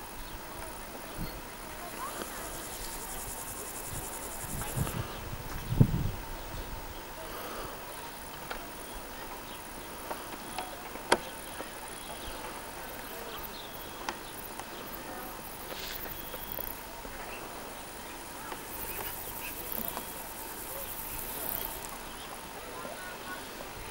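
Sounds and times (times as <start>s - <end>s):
insects chirping: 0.0s - 23.9s.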